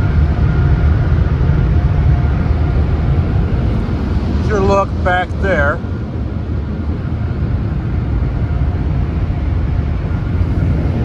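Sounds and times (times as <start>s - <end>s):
car wash dryers blowing air: 0.0s - 11.0s
deep rumble: 0.0s - 11.0s.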